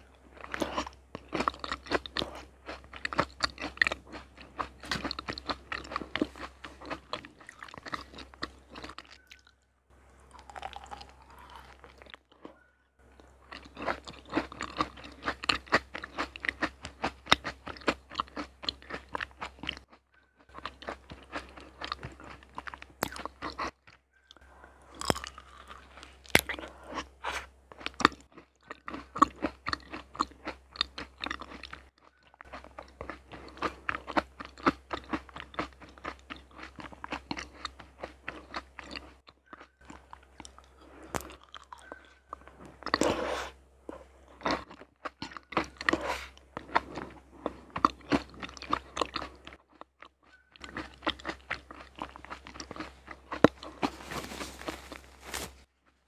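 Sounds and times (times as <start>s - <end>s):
chewing honeycomb crunching: 0.0s - 9.7s, 10.3s - 43.2s, 43.8s - 56.0s.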